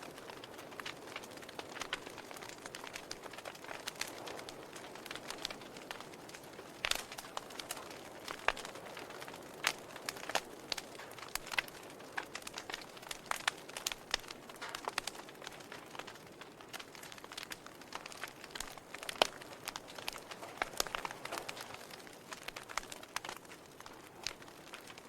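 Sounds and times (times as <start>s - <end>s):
soft fire hiss: 0.0s - 25.0s
wood logs crackling and popping: 0.0s - 25.0s.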